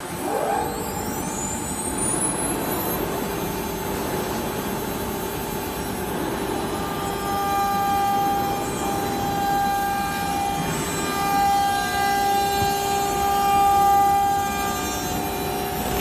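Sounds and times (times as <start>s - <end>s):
router spindle whine: 0.0s - 16.0s
steady tone with overtones: 0.0s - 16.0s.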